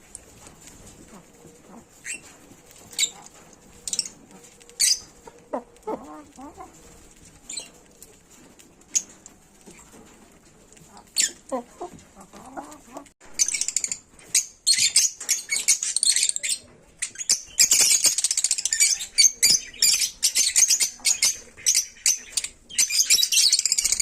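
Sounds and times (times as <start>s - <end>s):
lovebirds chirping: 1.1s - 7.9s, 10.7s - 24.0s.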